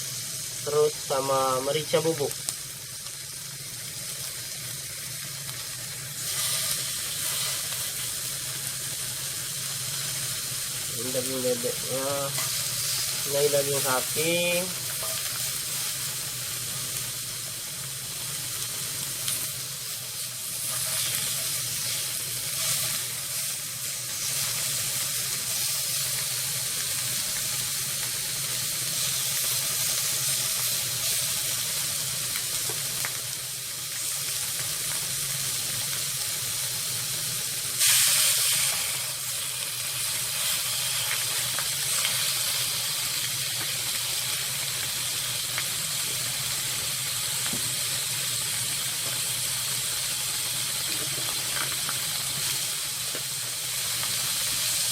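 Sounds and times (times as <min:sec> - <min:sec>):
meat sizzling in a pan: 0:00.0 - 0:54.9.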